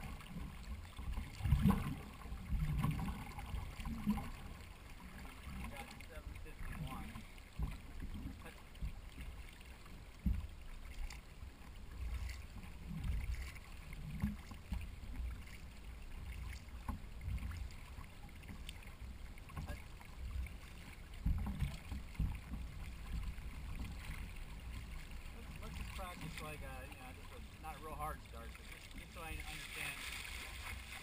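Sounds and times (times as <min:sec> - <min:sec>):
low rumble of water and hull: 0:00.0 - 0:31.0
paddle splashes: 0:00.0 - 0:31.0.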